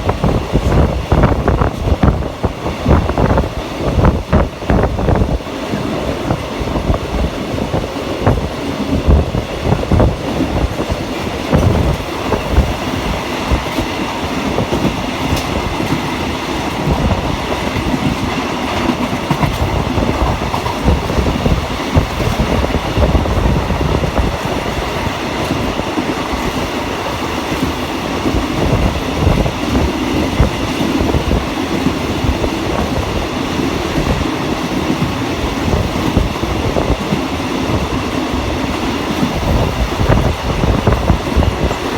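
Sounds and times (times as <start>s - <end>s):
train rumbling: 0.0s - 41.9s.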